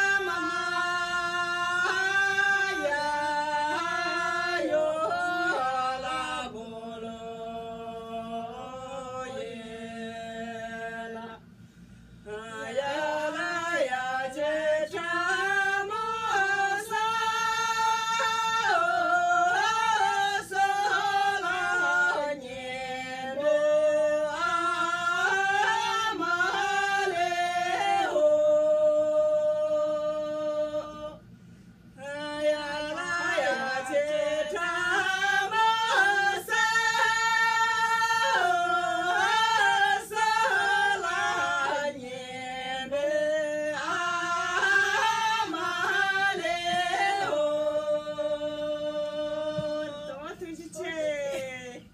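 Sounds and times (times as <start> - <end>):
women singing unaccompanied: 0.0 - 31.4, 32.0 - 51.9.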